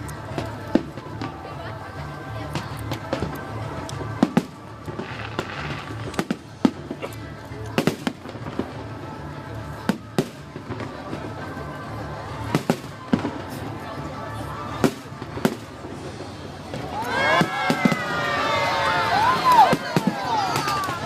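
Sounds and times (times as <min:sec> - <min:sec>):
crowd noise: 0:00.0 - 0:21.0
fireworks bangs and cracks: 0:00.0 - 0:21.0
music: 0:00.0 - 0:21.0.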